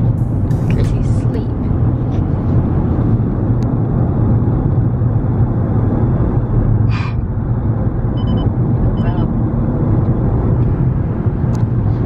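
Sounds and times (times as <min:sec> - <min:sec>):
vehicle rumble: 0:00.0 - 0:12.0.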